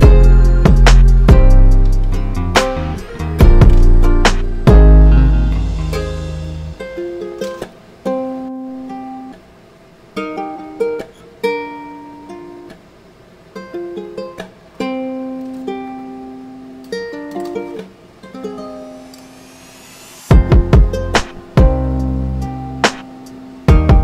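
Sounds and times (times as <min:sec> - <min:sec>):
plucked string melody: 0:00.0 - 0:09.5, 0:10.1 - 0:19.5, 0:20.3 - 0:24.0.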